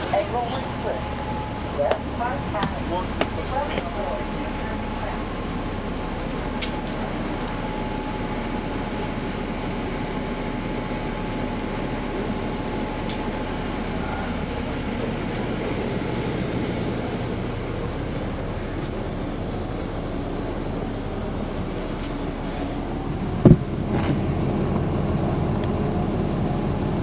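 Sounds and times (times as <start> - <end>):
bus diesel engine drone: 0.0 - 27.0.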